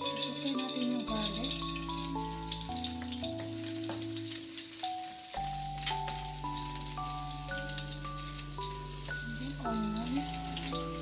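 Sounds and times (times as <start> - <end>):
background music: 0.0 - 11.0
garlic sizzling in oil: 0.0 - 11.0.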